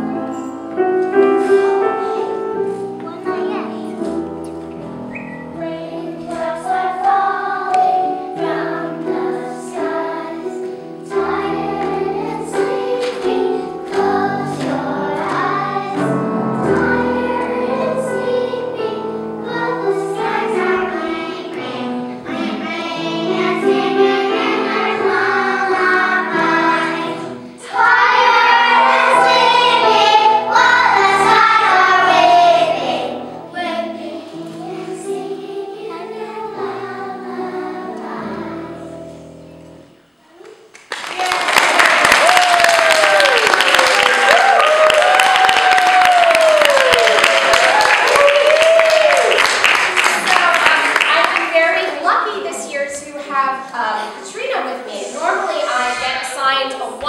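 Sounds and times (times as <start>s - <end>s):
children's choir singing: 0.0s - 40.2s, 41.2s - 57.0s.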